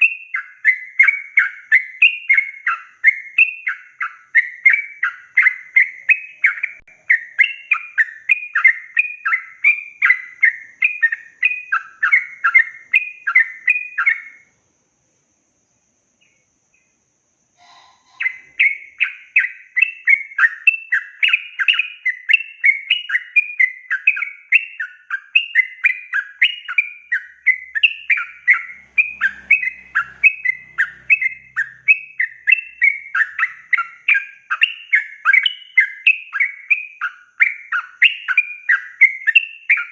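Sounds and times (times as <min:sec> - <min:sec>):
bird chattering song: 0:00.0 - 0:14.6, 0:15.7 - 0:39.9.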